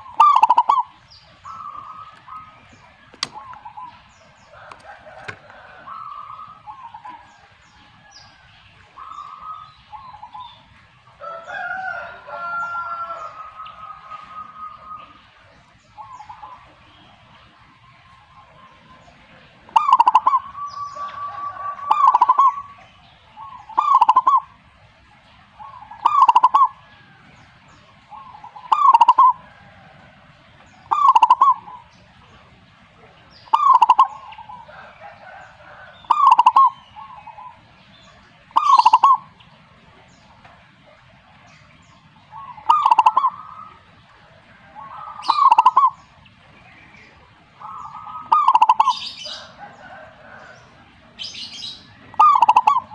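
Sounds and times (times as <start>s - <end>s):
dove cooing: 0.0s - 52.9s
faint bird calls: 0.0s - 52.9s.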